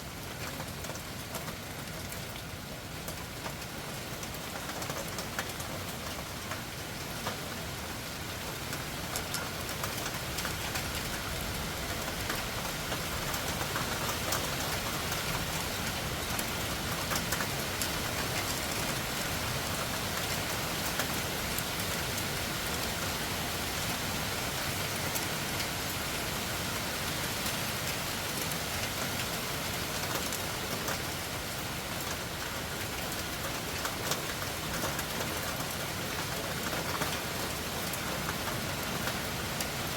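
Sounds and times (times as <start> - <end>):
raindrops pattering: 0.0 - 39.9
heavy rain hiss: 5.7 - 39.9.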